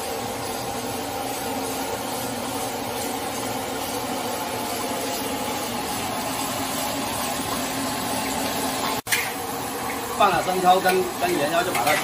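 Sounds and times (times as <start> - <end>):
meat frying in a wok: 0.0 - 12.0.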